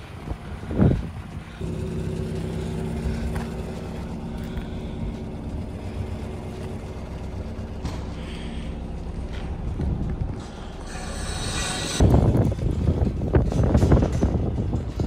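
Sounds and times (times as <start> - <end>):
car engine idling: 0.0 - 13.4.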